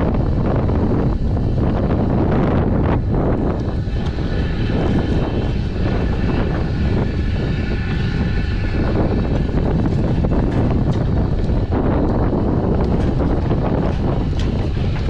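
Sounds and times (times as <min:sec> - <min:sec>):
motor droning: 0:00.0 - 0:15.0
wind rumbling on microphone: 0:00.0 - 0:15.0.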